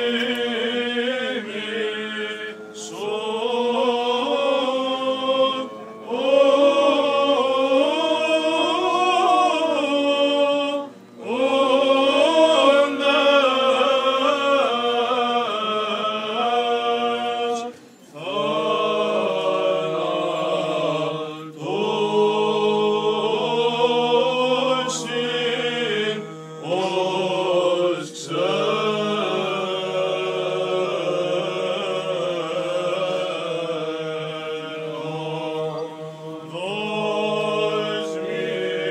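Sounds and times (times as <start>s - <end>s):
young male voices chanting a hymn: 0.0s - 38.9s.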